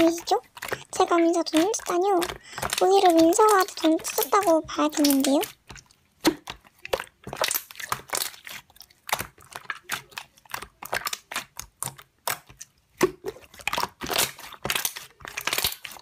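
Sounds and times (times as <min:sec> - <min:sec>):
slime squished by hand: 0:00.0 - 0:16.0.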